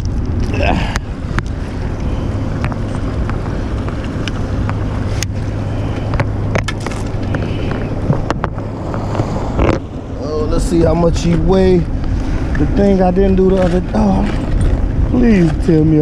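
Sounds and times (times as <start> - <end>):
steady low hum: 0.0 - 16.0
wind noise on microphone: 0.0 - 16.0.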